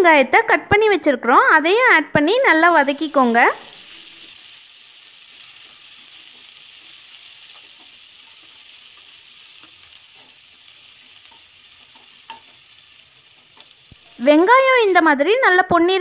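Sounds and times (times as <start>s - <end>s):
onion sizzling in hot oil: 2.2s - 15.2s.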